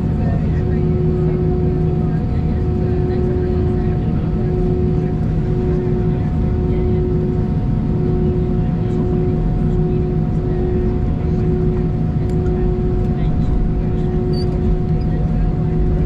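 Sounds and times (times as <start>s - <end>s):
low engine drone: 0.0s - 16.0s
steady whine: 0.0s - 16.0s.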